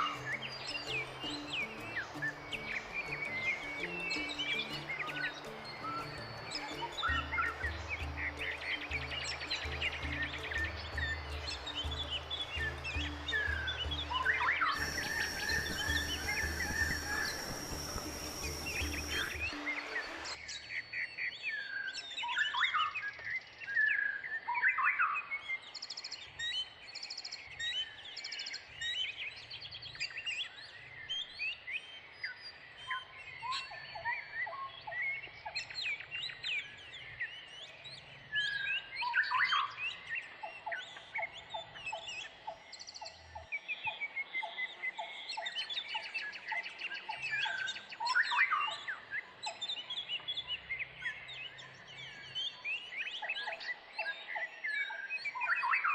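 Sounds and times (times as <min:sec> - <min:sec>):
birds singing and calling: 0:00.0 - 0:55.9.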